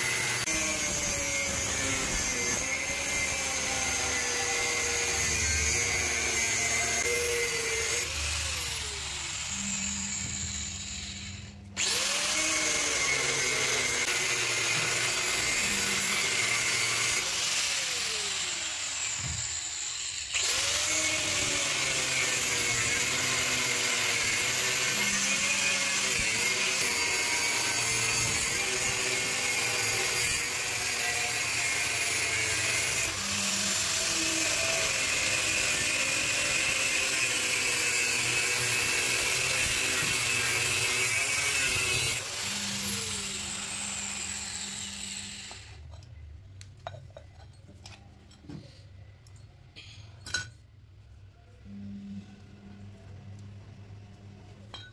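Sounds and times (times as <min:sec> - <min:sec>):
angle grinder cutting steel: 0:00.0 - 0:46.0.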